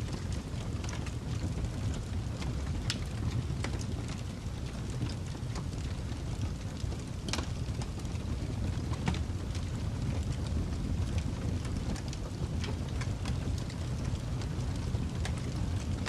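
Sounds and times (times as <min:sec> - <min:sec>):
fire burning low rumble: 0:00.0 - 0:16.0
fire crackles and pops: 0:00.0 - 0:16.0.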